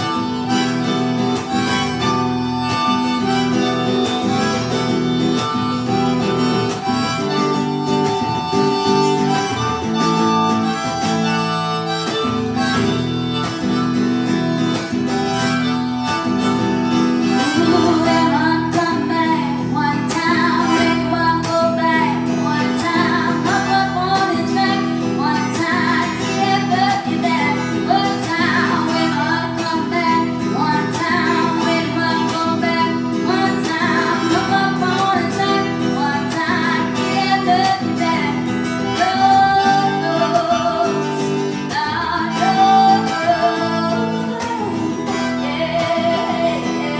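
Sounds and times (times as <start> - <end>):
guitar accompaniment: 0.0 - 46.9
harmonica playing: 0.0 - 46.9.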